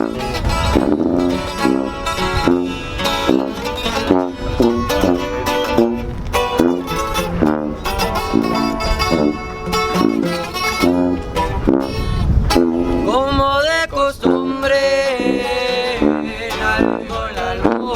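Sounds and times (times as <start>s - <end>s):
plucked guitars playing: 0.0s - 17.9s.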